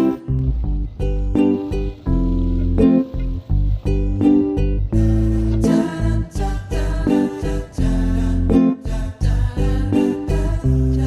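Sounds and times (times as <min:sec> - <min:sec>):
bright rhythmic background music: 0:00.0 - 0:11.0.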